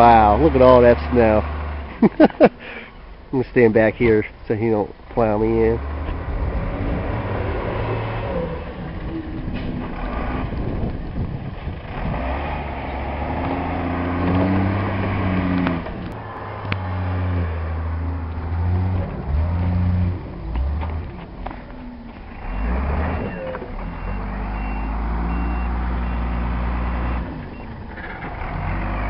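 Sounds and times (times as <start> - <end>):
truck engine working hard: 5.6 - 29.0.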